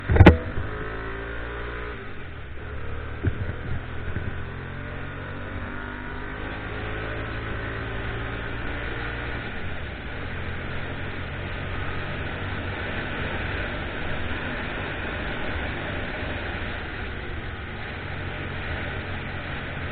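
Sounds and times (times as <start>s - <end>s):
motorcycle engine running: 0.0s - 19.9s
road noise: 0.0s - 19.9s.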